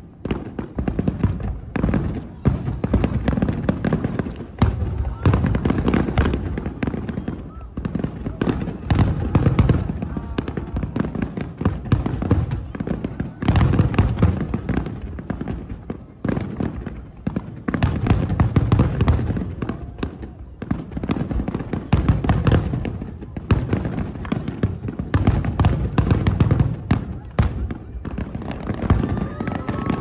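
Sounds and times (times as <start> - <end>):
firework booms: 0.0 - 30.0
firework cracks and crackling: 0.0 - 30.0.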